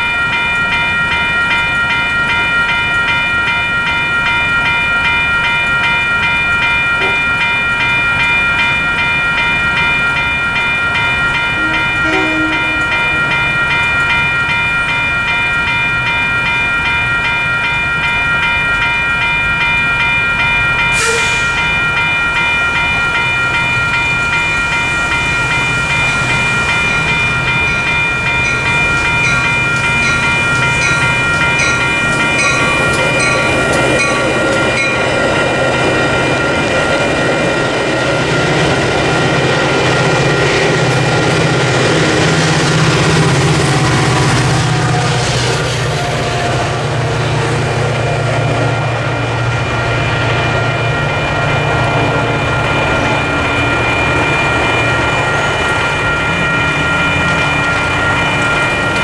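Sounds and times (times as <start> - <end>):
low rumble of train: 0.0 - 59.0
railroad crossing bell ringing: 0.0 - 59.0.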